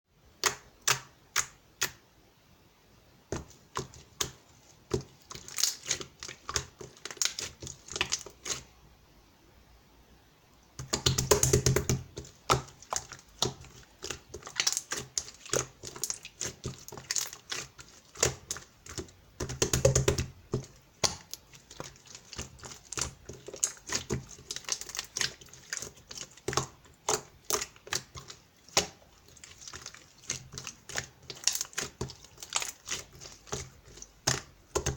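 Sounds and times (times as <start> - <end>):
slime squishing and popping: 3.7 - 8.7, 10.8 - 34.9.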